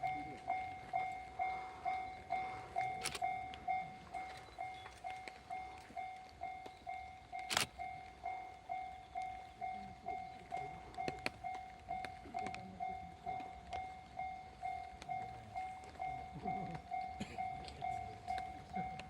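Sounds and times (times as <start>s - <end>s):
level crossing bell dinging: 0.0s - 19.0s.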